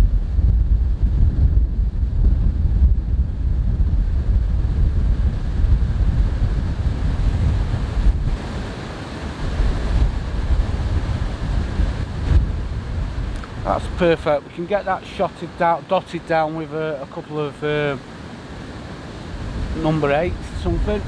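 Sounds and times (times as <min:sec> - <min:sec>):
strong gusty wind on microphone: 0:00.0 - 0:15.1, 0:17.6 - 0:21.0.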